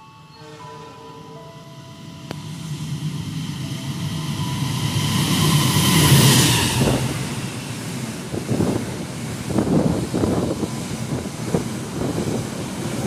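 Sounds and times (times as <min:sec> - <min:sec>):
locomotive and coaches passing: 0:00.0 - 0:13.0.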